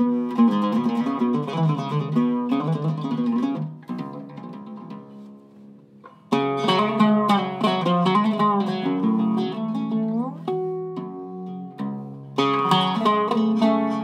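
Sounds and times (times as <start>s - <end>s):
oud plucked notes: 0.0s - 14.0s.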